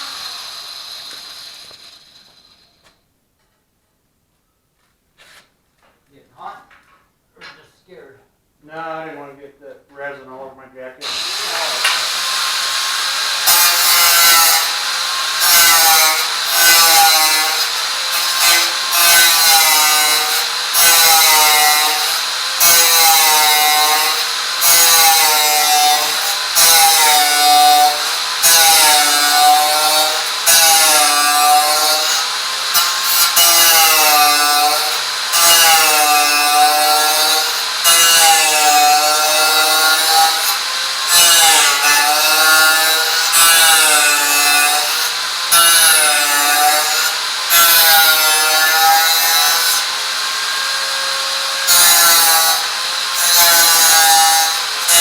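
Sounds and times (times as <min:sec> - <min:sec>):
hand tool sawing strokes: 0:00.0 - 0:03.0, 0:11.0 - 0:55.0.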